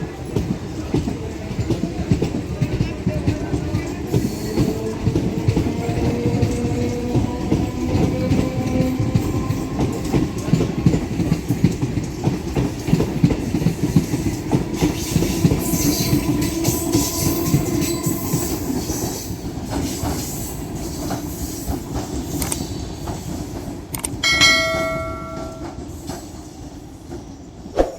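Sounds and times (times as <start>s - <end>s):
electric train rumbling past: 0.0s - 27.8s.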